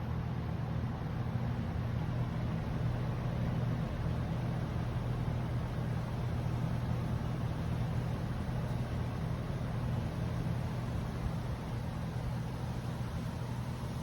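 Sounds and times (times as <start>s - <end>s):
air conditioning unit humming: 0.0s - 14.0s.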